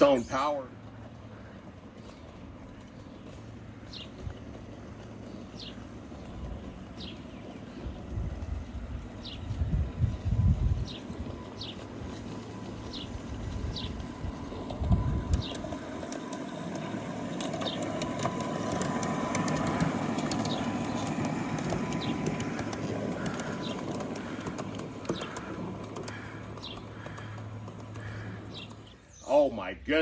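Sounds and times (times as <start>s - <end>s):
distant vehicle passing: 0.0s - 30.0s
bird chirping: 1.2s - 30.0s.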